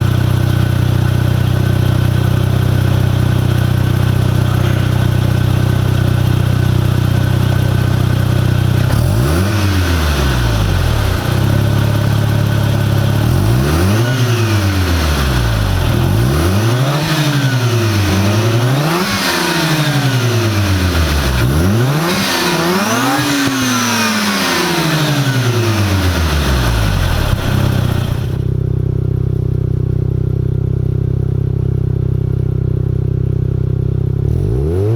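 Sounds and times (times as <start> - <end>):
rotary engine idling and revving: 0.0 - 34.9.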